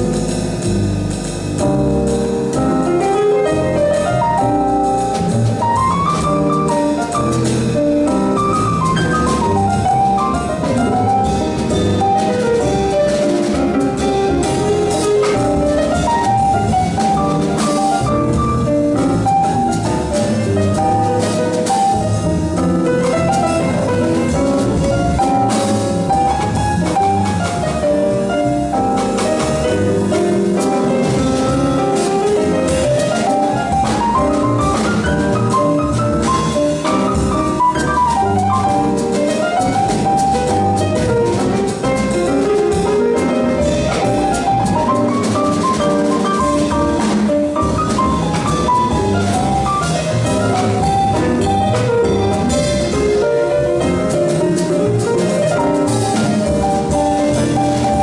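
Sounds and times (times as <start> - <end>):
drum kit with cymbals: 0.0 - 58.0
grand piano melody: 0.0 - 58.0
upright bass: 0.0 - 58.0.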